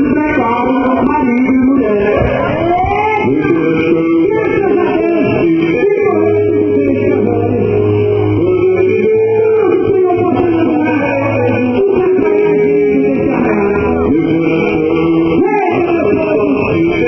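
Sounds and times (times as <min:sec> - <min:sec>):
man singing over a band: 0:00.0 - 0:17.0.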